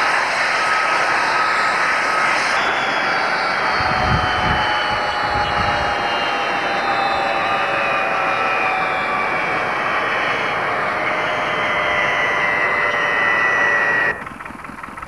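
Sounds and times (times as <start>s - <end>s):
helicopter engines whining: 0.0s - 15.0s.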